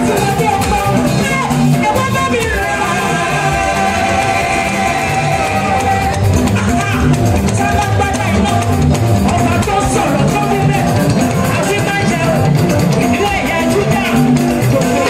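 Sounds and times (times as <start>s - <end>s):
drums: 0.0s - 15.0s
electric guitars: 0.0s - 15.0s.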